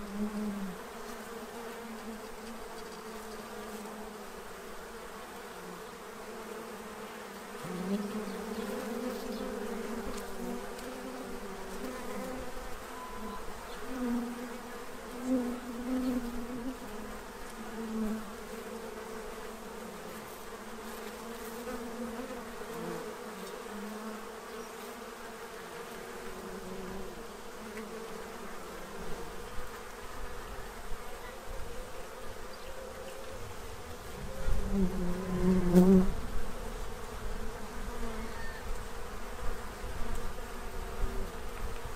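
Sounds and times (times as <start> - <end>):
honey bees buzzing: 0.0 - 41.9.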